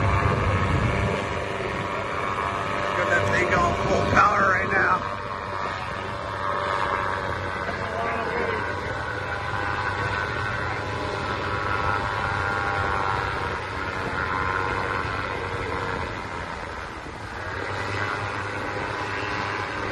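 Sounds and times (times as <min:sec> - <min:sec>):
paramotor engine buzzing overhead: 0:00.0 - 0:19.9.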